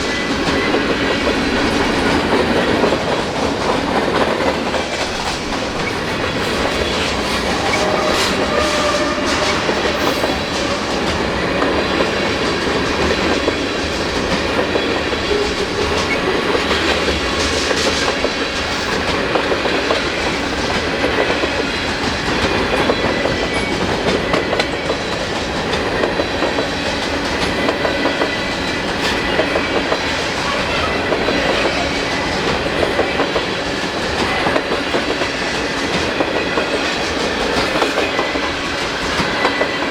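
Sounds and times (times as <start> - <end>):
freight train rumbling past: 0.0 - 39.9
wheels clattering on rails: 0.0 - 39.9.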